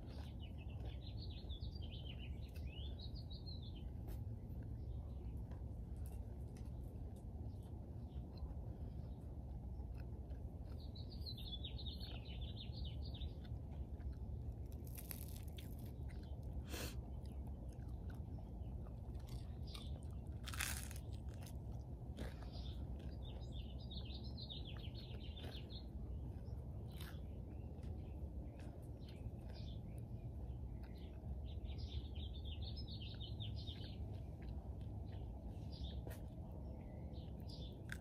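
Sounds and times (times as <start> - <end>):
crunching and chewing toast: 0.0 - 38.0.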